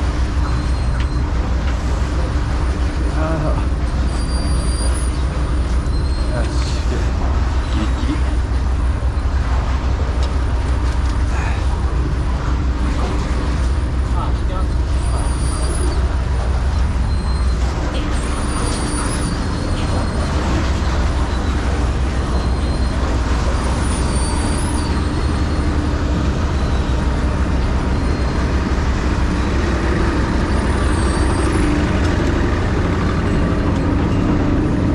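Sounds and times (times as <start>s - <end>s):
low mechanical rumble: 0.0s - 34.9s.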